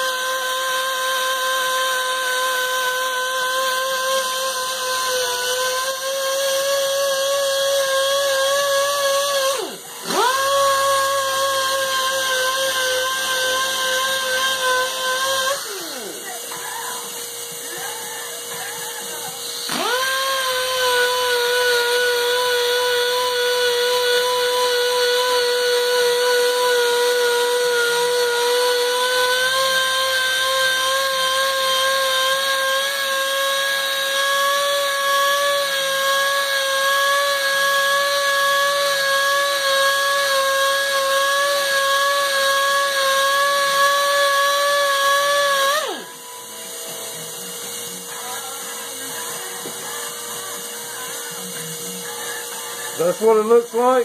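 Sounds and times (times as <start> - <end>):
sander whining: 0.0 - 54.0.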